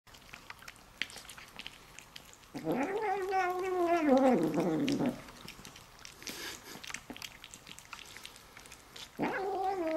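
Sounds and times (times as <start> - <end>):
faint eating clicks: 0.1 - 9.9.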